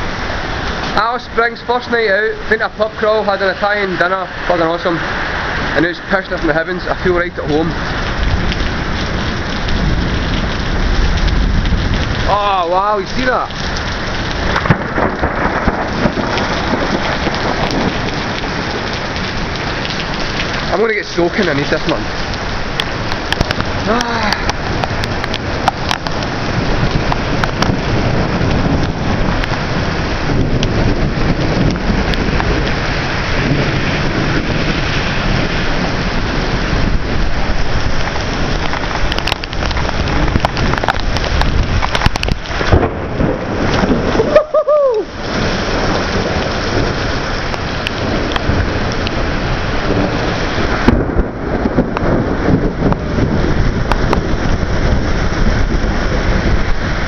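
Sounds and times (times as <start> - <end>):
heavy rain pouring: 0.0 - 57.0
low thunder rumbling: 0.0 - 57.0.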